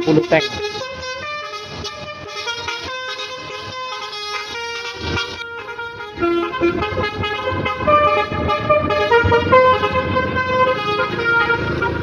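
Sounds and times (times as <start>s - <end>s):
musical bus horn: 0.0s - 12.0s.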